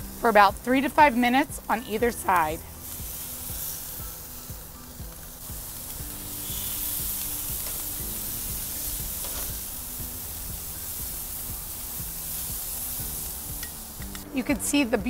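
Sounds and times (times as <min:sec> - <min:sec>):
squid sizzling on a grill: 0:00.0 - 0:15.0.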